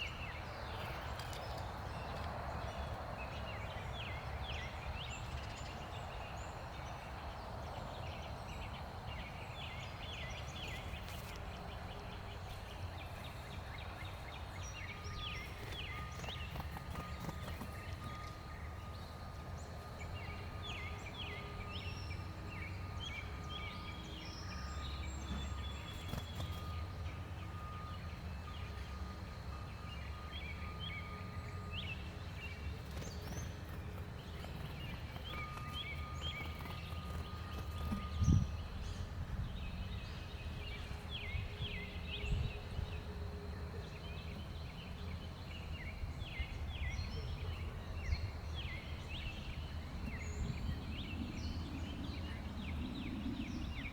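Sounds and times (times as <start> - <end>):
low outdoor rumble: 0.0 - 53.9
songbirds chirping: 0.0 - 53.9.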